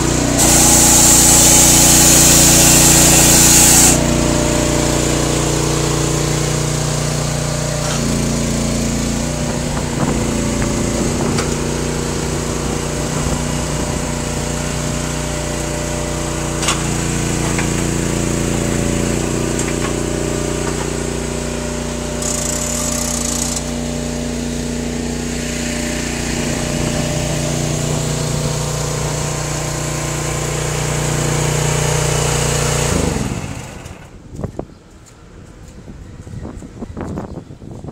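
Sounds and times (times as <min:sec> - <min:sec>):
hydraulic firewood processor droning: 0:00.0 - 0:35.8.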